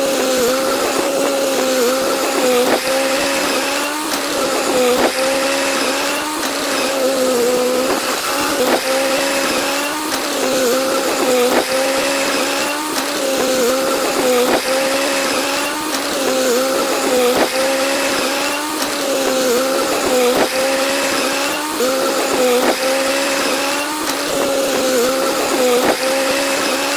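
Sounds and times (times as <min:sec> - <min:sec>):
excavator mechanical whine: 0:00.0 - 0:26.9.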